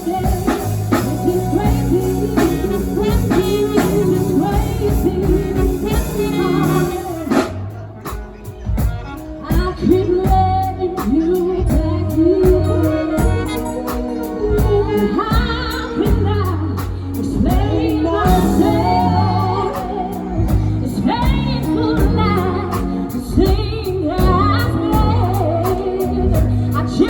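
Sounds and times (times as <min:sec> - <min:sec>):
person singing melismatic lines: 0:00.0 - 0:07.9, 0:09.4 - 0:27.0
live band playing soul song: 0:00.0 - 0:27.0.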